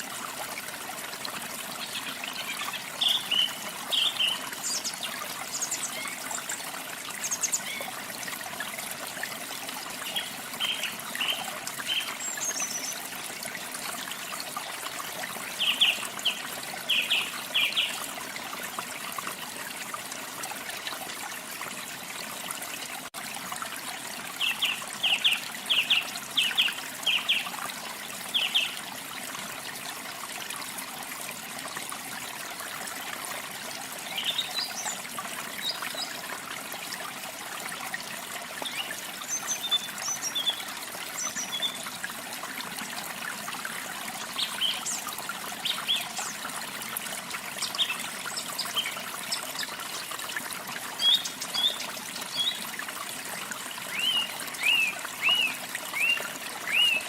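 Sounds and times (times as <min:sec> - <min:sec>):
waterfall running water: 0:00.0 - 0:57.0.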